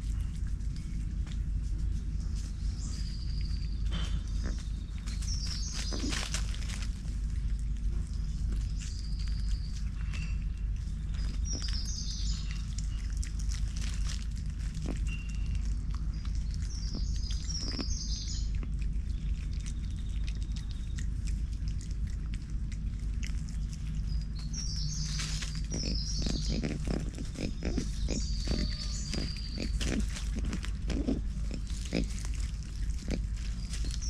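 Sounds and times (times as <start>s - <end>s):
low background hum: 0.0s - 34.0s
birds chirping: 1.9s - 34.0s.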